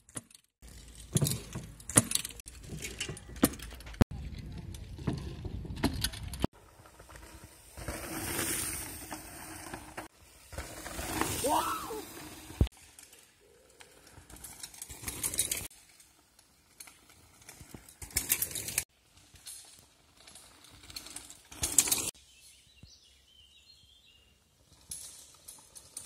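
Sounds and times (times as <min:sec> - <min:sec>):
bike tyres rolling over dirt: 0:00.6 - 0:22.1, 0:22.9 - 0:26.0.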